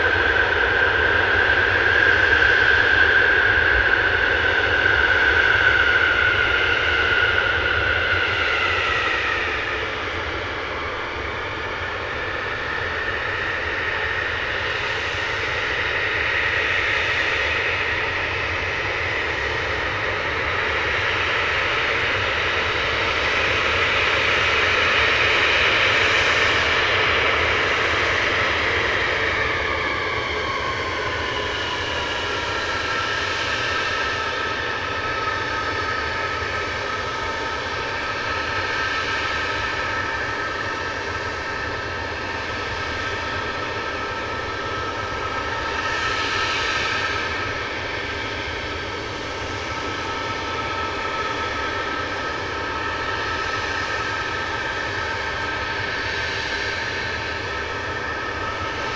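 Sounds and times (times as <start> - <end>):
jet engines roaring with high whine: 0.0 - 58.9.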